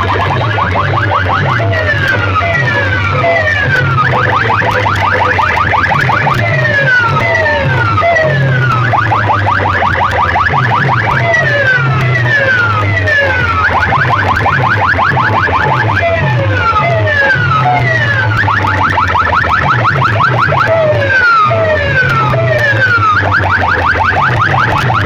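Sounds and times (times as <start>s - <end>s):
electronic siren effect: 0.0s - 25.0s
pulsing heavy bass line: 0.0s - 25.0s.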